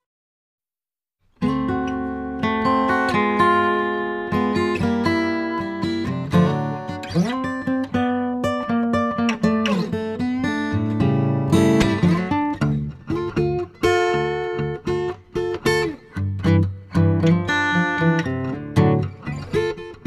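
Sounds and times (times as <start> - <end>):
acoustic guitar picking and strumming: 1.4 - 20.0.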